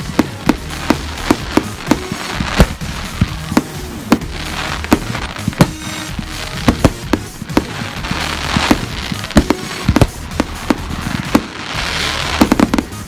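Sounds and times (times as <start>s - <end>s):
fireworks bangs and pops: 0.0s - 13.0s
fireworks crackling hiss: 0.0s - 13.0s.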